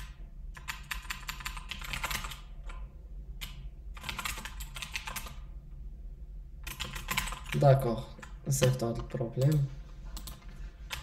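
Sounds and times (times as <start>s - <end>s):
rapid typing on keyboard: 0.0s - 2.8s, 3.4s - 5.5s, 6.6s - 11.0s.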